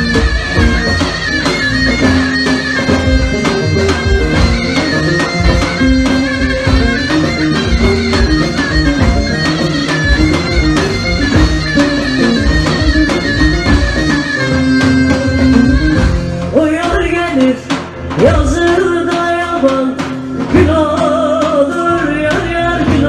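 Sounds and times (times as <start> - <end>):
folk melody lines: 0.0 - 23.0
steady percussion beat: 0.0 - 23.0.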